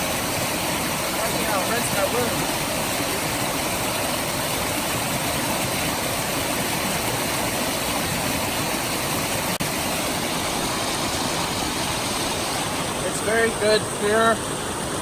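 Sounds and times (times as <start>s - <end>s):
river water and waterfalls rushing: 0.0s - 15.0s.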